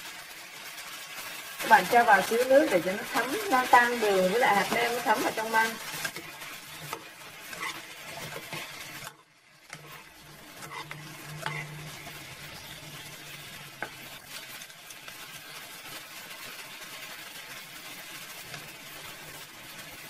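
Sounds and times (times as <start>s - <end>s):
bamboo shoots sizzling in a pan: 0.0s - 20.0s.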